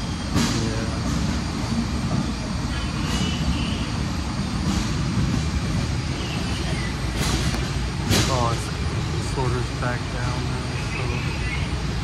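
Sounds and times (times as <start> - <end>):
machinery and conveyors rumbling: 0.0 - 12.0.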